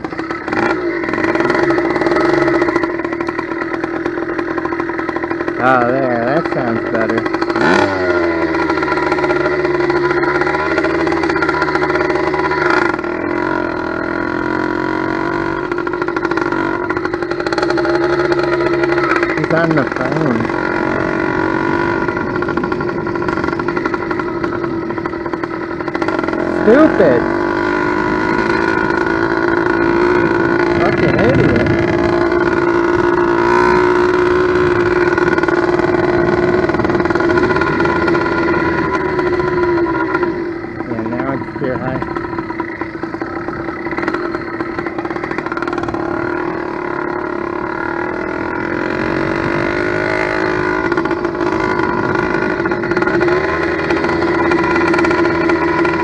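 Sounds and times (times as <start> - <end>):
small two-stroke engine running: 0.0 - 56.0.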